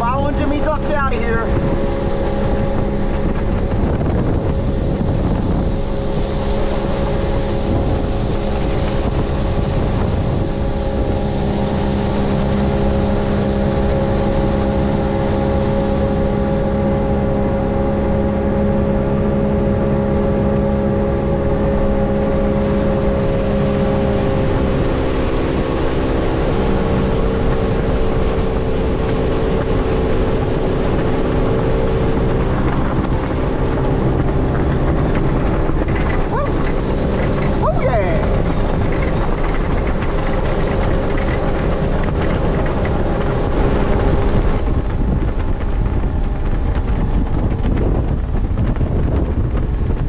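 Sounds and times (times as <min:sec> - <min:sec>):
outboard motor running: 0:00.0 - 0:50.0
rushing water: 0:00.0 - 0:50.0
wind on microphone: 0:00.0 - 0:50.0.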